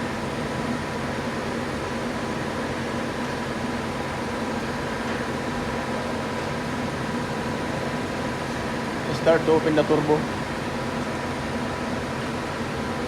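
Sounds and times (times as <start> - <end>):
machinery hum with faint whine: 0.0 - 13.0.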